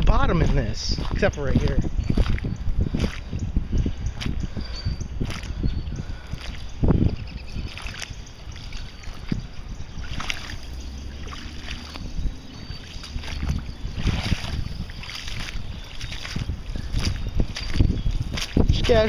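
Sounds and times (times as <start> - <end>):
footsteps splashing through water: 0.0 - 19.0.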